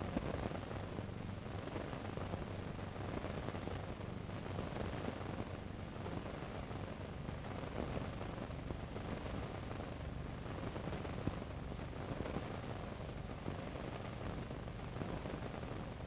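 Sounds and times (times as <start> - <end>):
film soundtrack hiss: 0.0 - 16.0
low electrical hum: 0.0 - 16.0.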